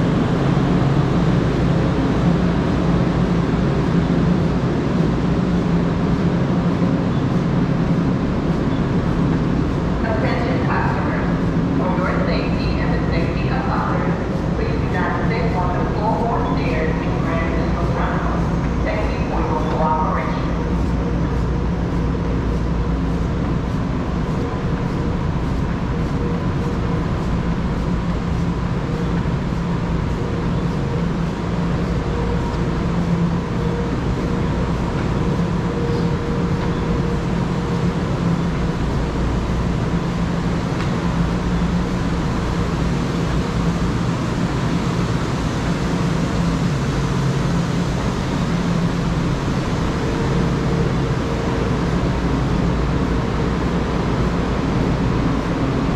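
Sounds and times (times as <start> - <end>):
faint steady whine: 0.0 - 55.9
low hum: 0.0 - 55.9.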